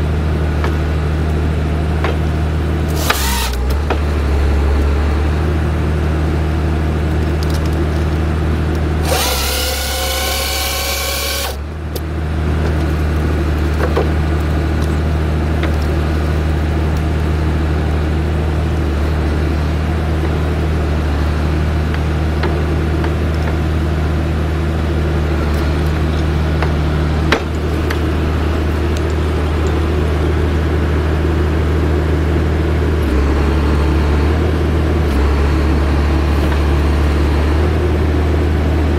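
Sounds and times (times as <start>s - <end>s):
diesel engine running: 0.0s - 38.9s
hydraulics working: 0.0s - 38.9s.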